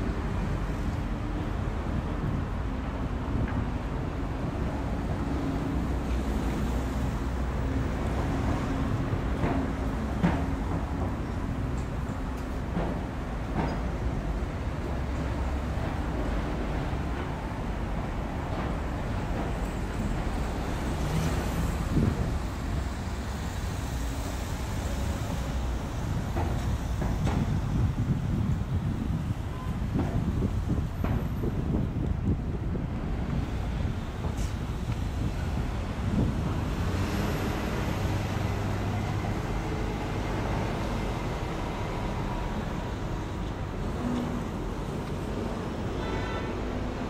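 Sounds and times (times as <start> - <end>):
road traffic noise: 0.0 - 47.0
rumble of passing vehicles: 0.0 - 47.0.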